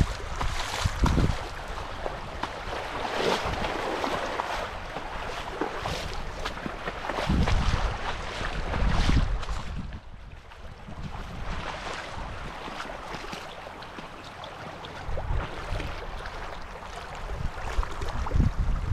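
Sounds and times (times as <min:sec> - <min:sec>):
water rushing and splashing: 0:00.0 - 0:18.9.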